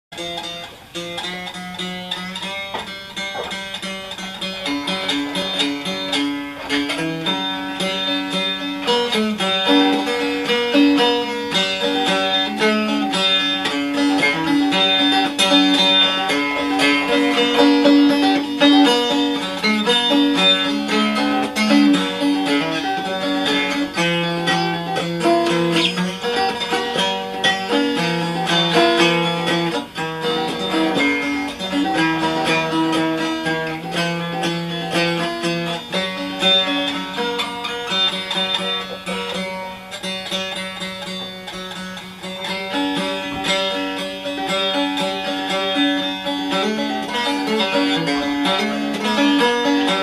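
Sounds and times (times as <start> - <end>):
banjo plucked notes: 0.1 - 50.0.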